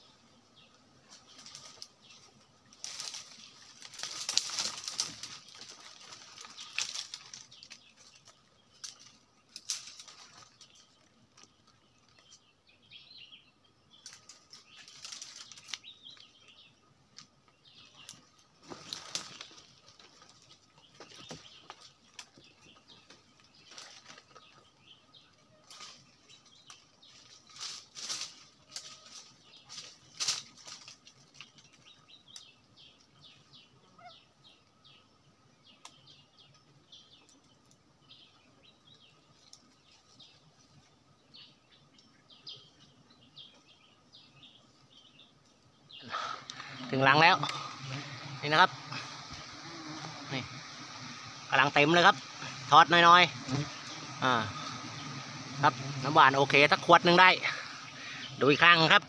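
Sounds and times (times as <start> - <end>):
branches and leaves rustling: 0.0 - 59.0.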